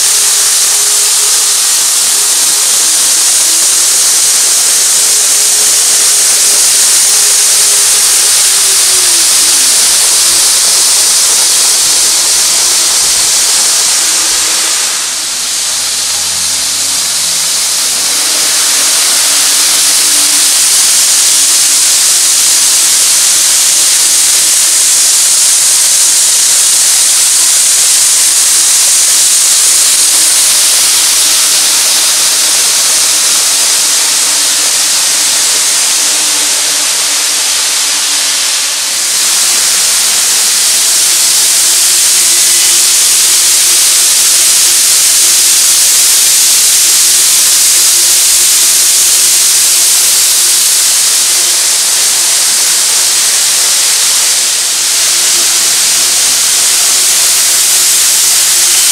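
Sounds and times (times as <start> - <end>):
model train wheels rolling: 0.0 - 58.9.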